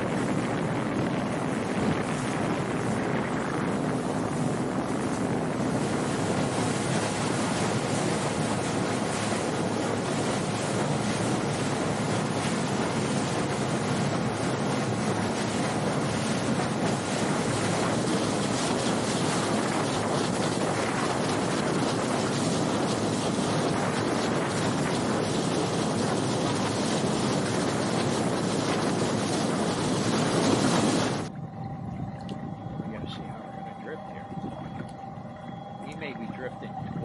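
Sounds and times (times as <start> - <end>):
water spraying off hull: 0.0 - 37.0
wind on microphone: 0.0 - 37.0.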